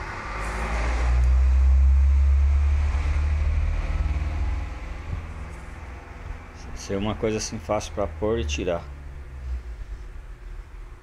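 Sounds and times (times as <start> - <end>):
subwoofer deep bass rumble: 1.0 - 11.0.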